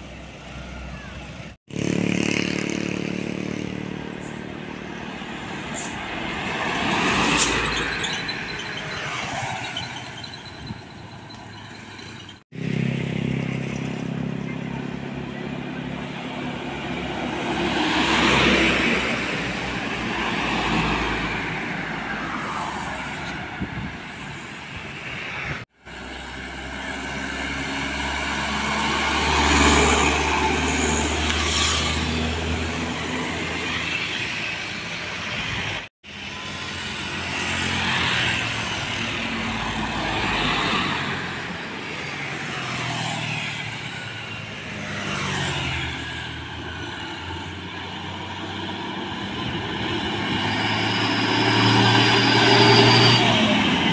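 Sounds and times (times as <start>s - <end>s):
vehicles passing on highway: 0.0s - 53.9s.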